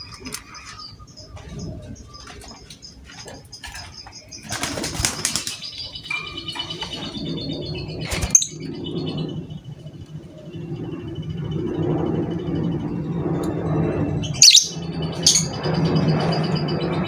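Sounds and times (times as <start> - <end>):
bird chirping and chattering: 0.0 - 17.0
wings flapping: 0.0 - 17.0.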